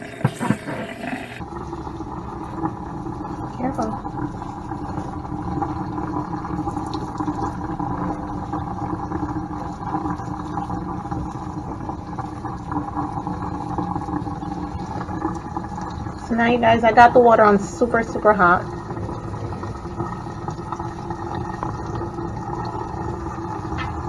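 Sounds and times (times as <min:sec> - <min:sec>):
sink sprayer water running: 0:00.0 - 0:24.0.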